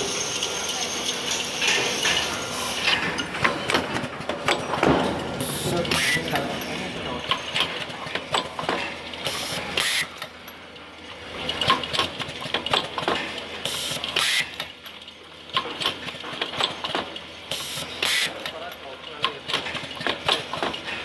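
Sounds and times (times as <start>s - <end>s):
machine clicking and clattering: 0.0s - 21.0s.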